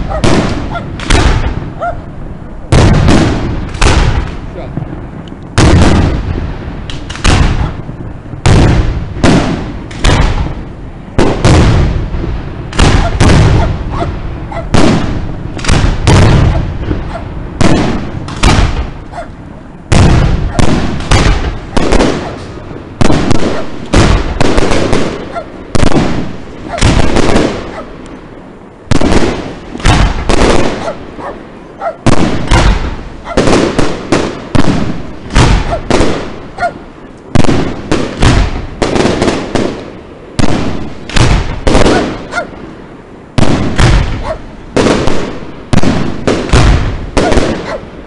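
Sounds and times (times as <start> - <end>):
fireworks bangs: 0.0 - 48.0.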